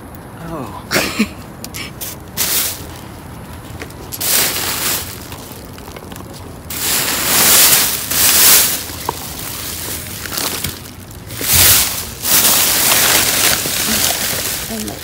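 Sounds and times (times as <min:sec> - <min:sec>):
plastic bags crinkling: 0:02.2 - 0:15.0.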